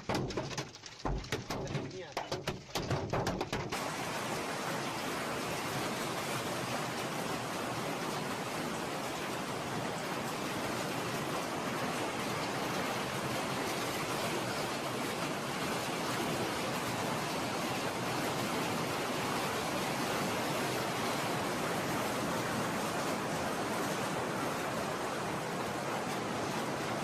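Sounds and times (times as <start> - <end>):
heavy hail downpour: 0.0 - 27.0.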